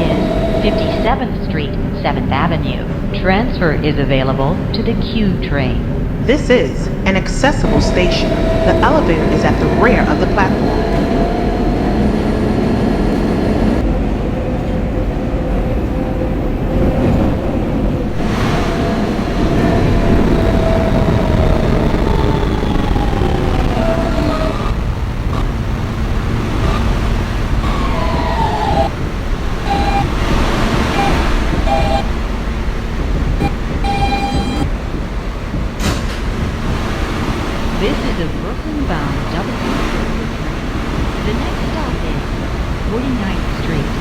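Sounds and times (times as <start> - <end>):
subway car rumble and hum: 0.0 - 44.0.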